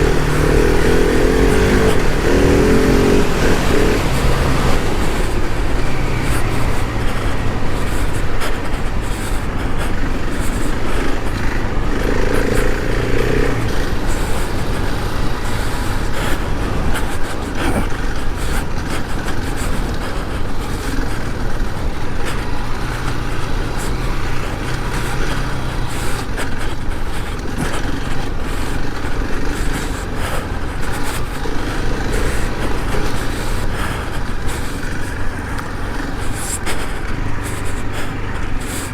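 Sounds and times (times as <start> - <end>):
motorcycle engine running: 0.0 - 38.9
wind and tyre noise: 0.0 - 38.9.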